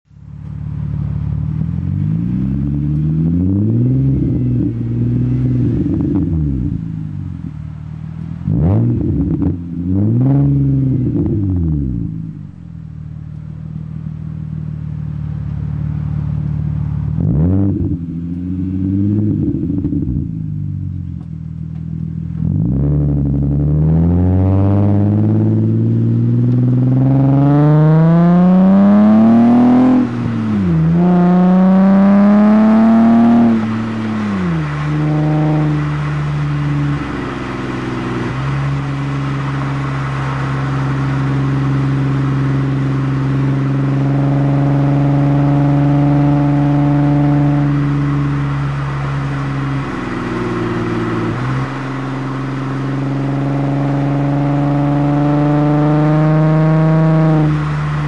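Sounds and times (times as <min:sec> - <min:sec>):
car exhaust accelerating: 0:00.0 - 0:58.0.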